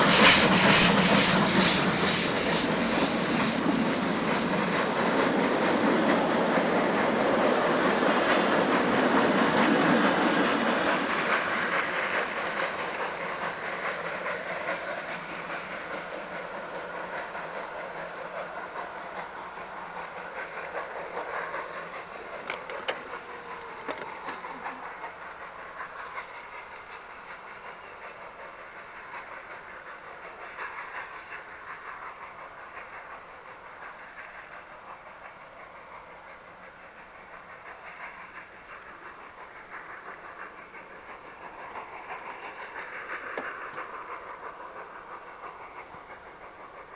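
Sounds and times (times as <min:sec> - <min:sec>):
steam locomotive exhaust: 0:00.0 - 0:46.9
wheels on rails: 0:00.0 - 0:46.9.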